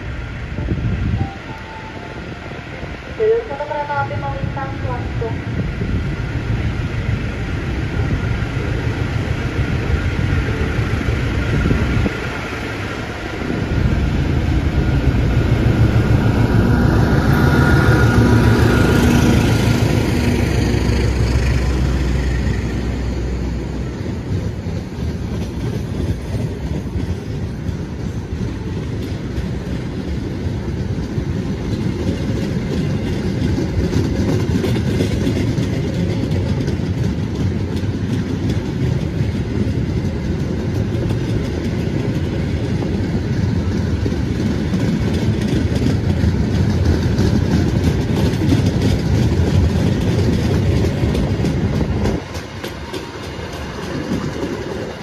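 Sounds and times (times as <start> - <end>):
diesel train passing: 0.0 - 55.0
train wheels rolling on rails: 0.0 - 55.0.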